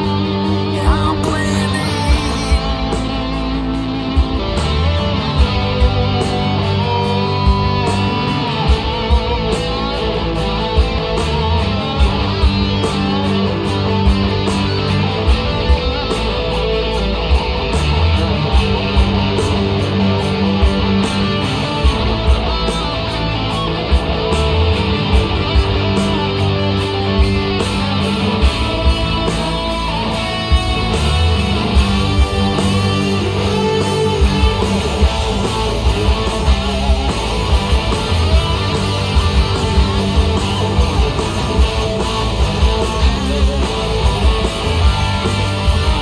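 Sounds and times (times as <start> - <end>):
electric guitars: 0.0 - 46.0
steady drumbeat: 0.0 - 46.0.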